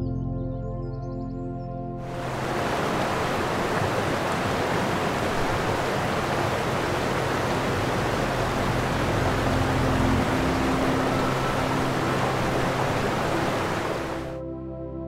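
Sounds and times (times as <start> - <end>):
waves breaking on a beach: 2.1 - 14.4.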